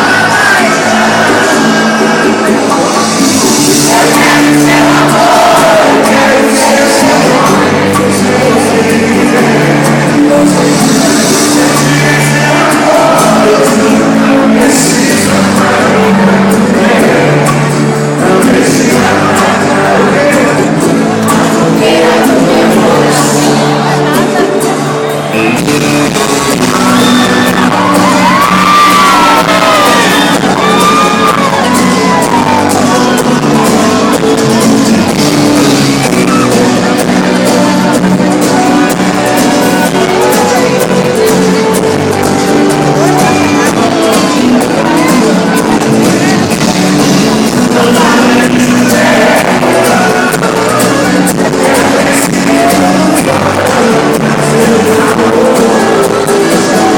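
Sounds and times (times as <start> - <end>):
crowd shouting and whooping: 0.0 - 56.9
live music: 0.0 - 56.9
person singing: 0.0 - 56.9.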